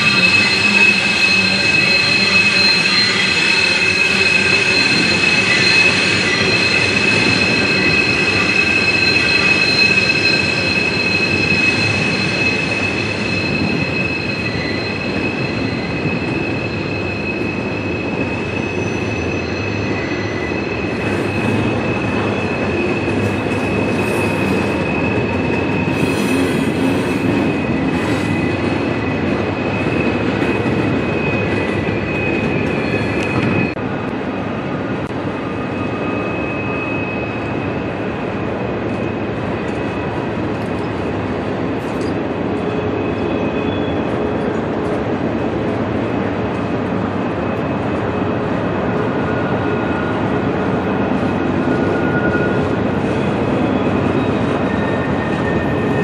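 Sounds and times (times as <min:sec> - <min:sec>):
train wheel flange squeal: 0:00.0 - 0:33.9, 0:34.6 - 0:56.0
low rumble of freight cars: 0:00.0 - 0:56.0.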